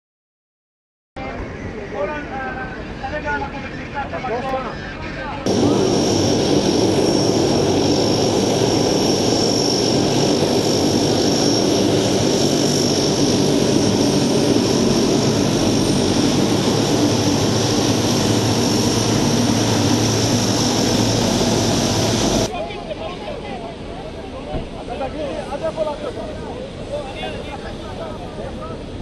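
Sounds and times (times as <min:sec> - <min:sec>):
turboprop engines running: 0:01.3 - 0:29.0.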